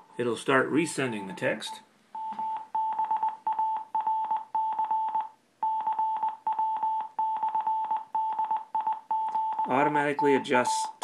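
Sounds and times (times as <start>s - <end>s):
morse code beeps: 0.9s - 11.0s.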